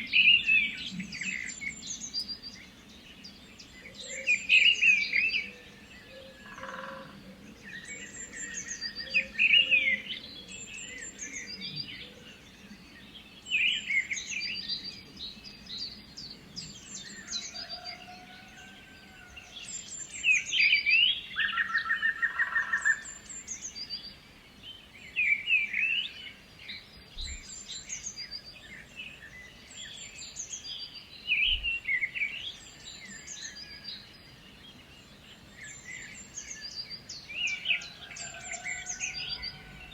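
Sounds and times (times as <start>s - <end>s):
bird singing bright song: 0.0s - 39.9s
birds calling and trilling: 0.0s - 39.9s.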